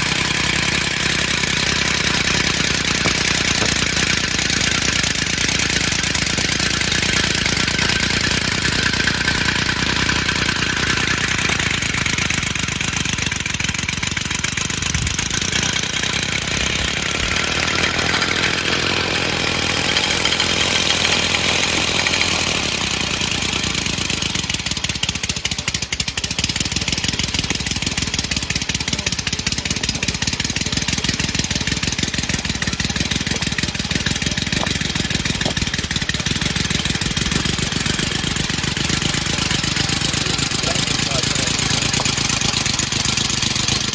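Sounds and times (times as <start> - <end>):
compressed-air engine pulsing: 0.0 - 24.8, 26.2 - 43.9.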